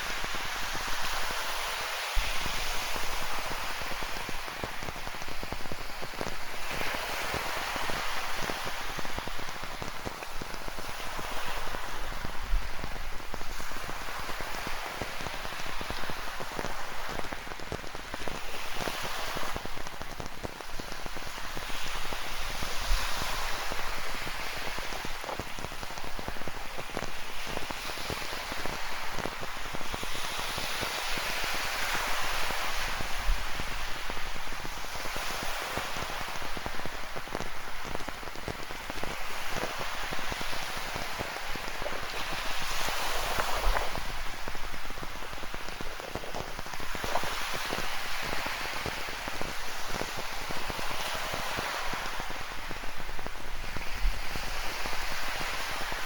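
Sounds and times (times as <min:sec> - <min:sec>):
ocean surf: 0:00.0 - 0:56.0
steady rain pattering: 0:00.0 - 0:56.0.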